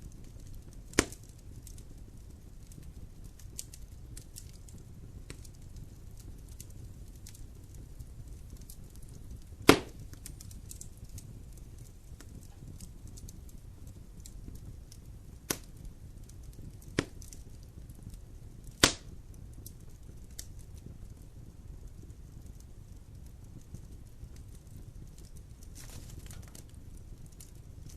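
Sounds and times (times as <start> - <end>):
burning wood popping: 0.0 - 27.9
wood fire rumbling and crackling: 0.0 - 27.9.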